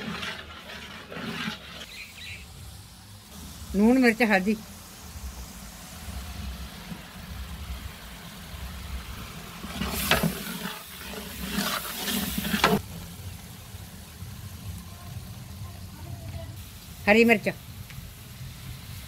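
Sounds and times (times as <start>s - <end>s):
spices sizzling in hot oil: 0.0s - 19.0s.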